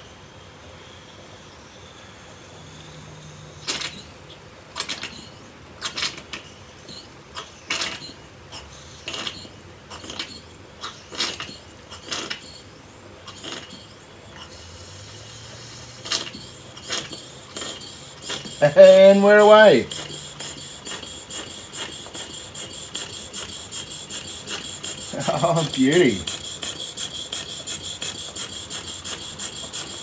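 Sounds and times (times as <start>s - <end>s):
steam engine puffs: 3.2s - 30.0s.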